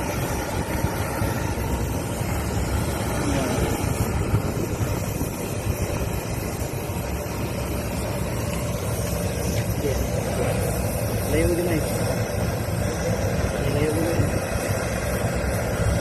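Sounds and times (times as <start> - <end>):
low rumbling noise: 0.0 - 16.0.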